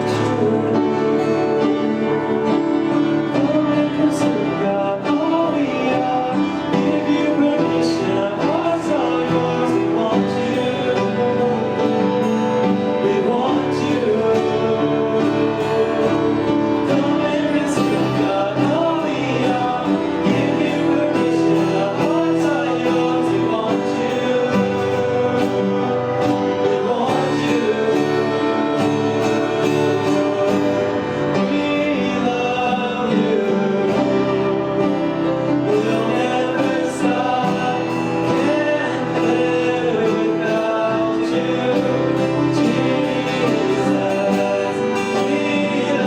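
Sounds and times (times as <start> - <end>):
instrumental accompaniment: 0.0 - 46.0
voices singing worship song: 0.0 - 46.0.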